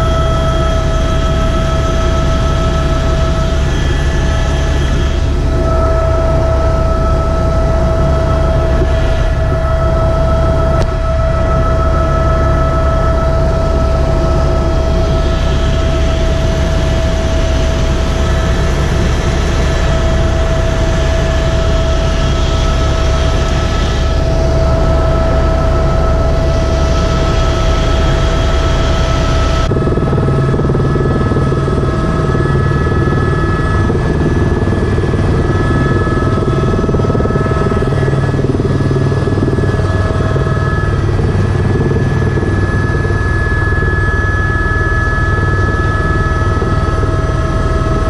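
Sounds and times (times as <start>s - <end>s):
helicopter turbine whine: 0.0s - 48.0s
low rotor drone: 0.0s - 48.0s.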